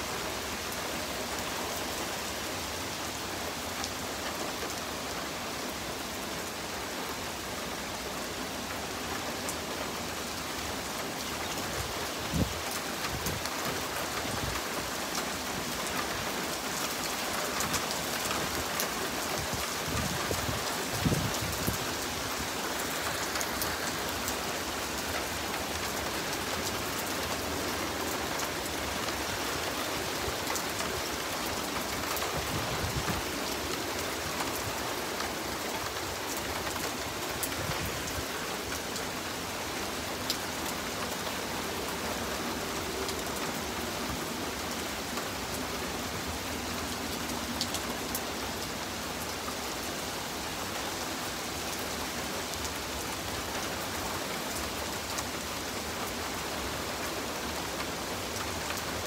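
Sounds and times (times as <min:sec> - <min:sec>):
steady rain on a wet street: 0:00.0 - 0:59.0.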